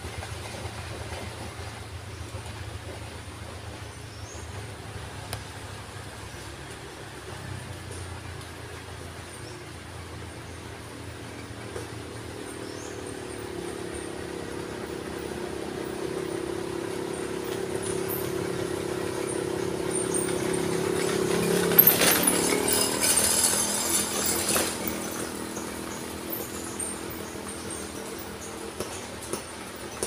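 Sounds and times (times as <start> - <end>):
motorcycle engine passing: 0.0 - 30.0.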